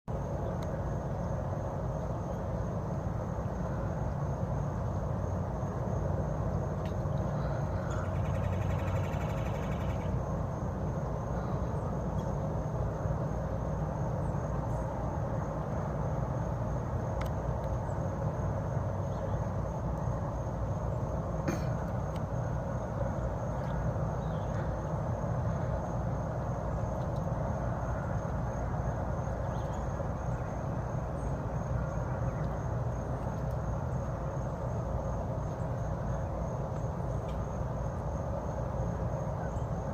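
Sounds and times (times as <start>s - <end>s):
low outdoor rumble: 0.1s - 39.9s.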